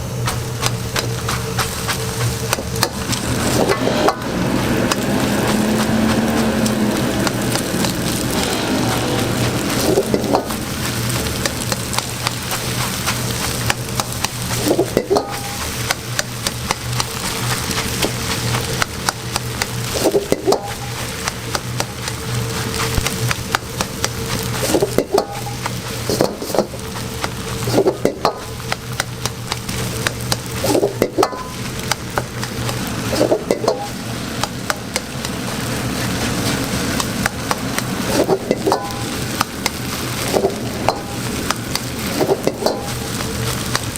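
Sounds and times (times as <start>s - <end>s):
rice sizzling in a hot pan: 0.0s - 43.9s
steady low hum: 0.0s - 43.9s
spatula scraping pan: 0.1s - 43.9s.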